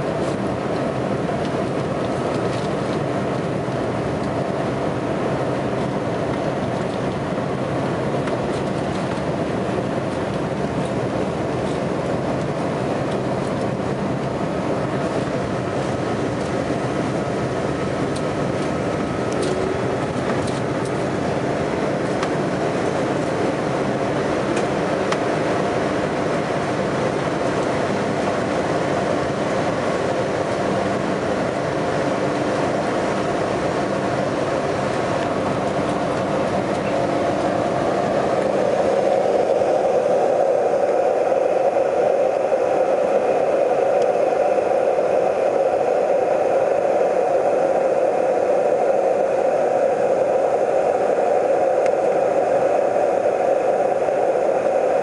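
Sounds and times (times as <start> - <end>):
jet engine and rushing air: 0.0 - 55.0.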